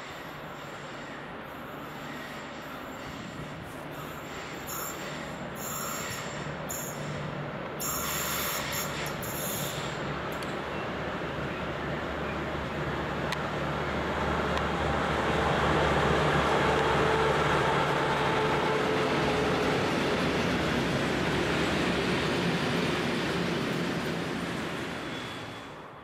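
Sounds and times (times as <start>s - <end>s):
diesel locomotive engine drone: 0.0s - 26.0s
train wheels running on rails: 0.0s - 26.0s.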